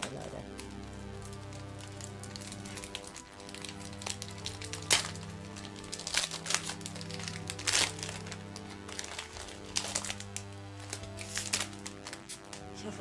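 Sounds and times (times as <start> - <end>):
background music: 0.0 - 13.0
foil wrapper crinkling: 0.0 - 13.0.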